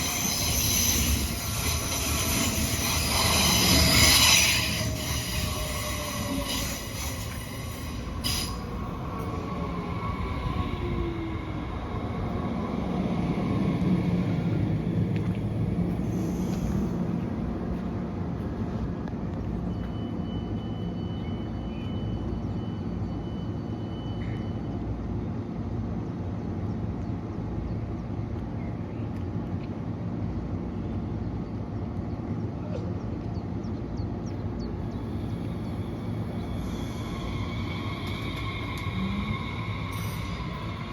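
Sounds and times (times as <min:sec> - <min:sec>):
electric train rumble: 0:00.0 - 0:40.9.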